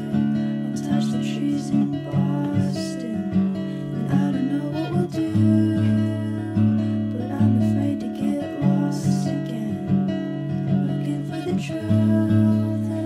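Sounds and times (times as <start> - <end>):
acoustic guitar instrumental: 0.0 - 13.0.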